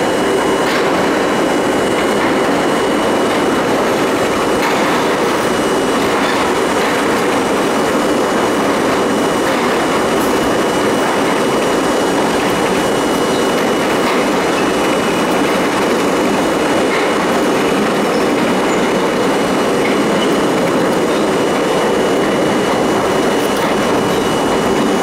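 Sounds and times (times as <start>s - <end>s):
subway wheels rumbling on rail: 0.0s - 25.0s.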